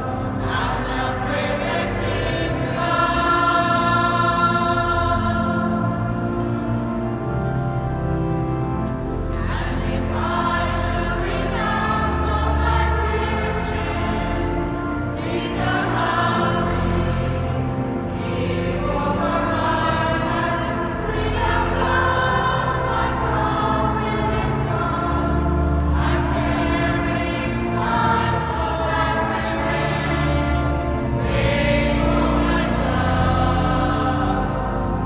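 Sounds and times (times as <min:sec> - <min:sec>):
mixed choir singing: 0:00.0 - 0:07.8, 0:09.3 - 0:35.0.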